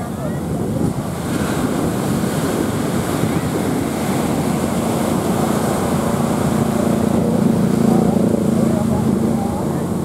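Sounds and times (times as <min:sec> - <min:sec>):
distant outboard engine: 0:00.0 - 0:10.0
sea waves: 0:00.0 - 0:10.0
wind buffeting microphone: 0:00.0 - 0:10.0.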